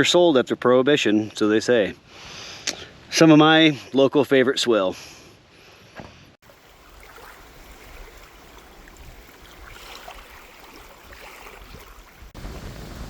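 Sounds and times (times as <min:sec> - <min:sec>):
soft outdoor rush: 0:00.0 - 0:13.0.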